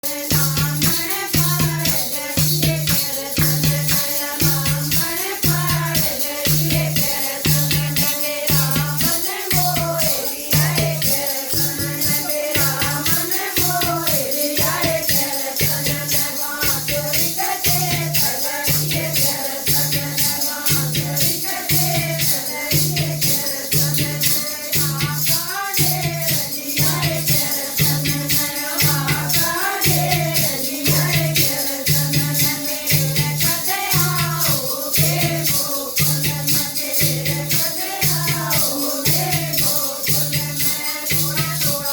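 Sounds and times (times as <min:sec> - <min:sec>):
shaken rattle percussion: 0:00.0 - 0:41.9.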